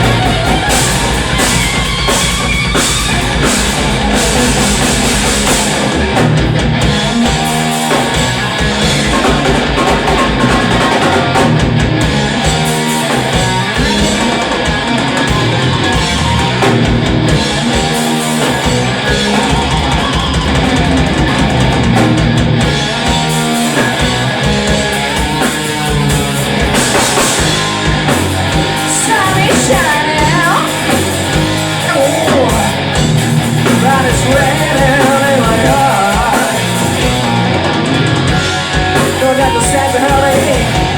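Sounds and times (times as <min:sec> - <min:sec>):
drum kit: 0:00.0 - 0:40.9
electric guitar: 0:00.0 - 0:40.9.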